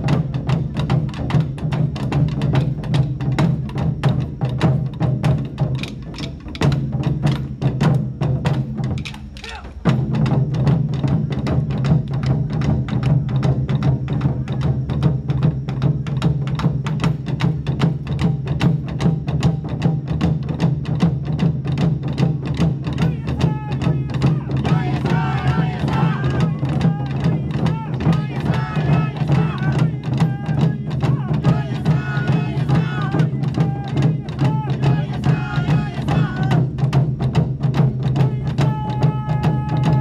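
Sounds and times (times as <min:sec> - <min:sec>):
taiko drums beaten fast: 0:00.0 - 0:40.0.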